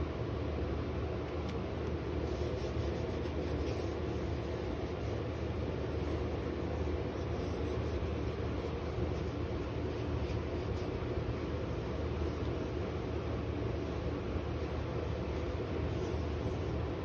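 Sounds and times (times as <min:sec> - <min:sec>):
steady low hum: 0:00.0 - 0:17.0
hands rubbing paper: 0:01.5 - 0:17.0.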